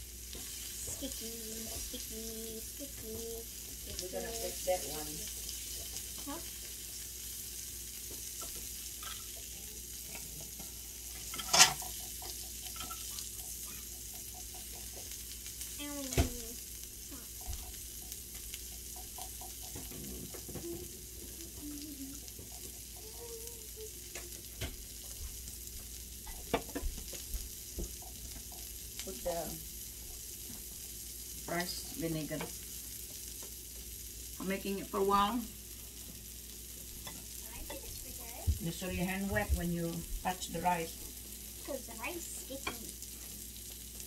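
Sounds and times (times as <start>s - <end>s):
meat sizzling on electric grill: 0.0s - 44.0s.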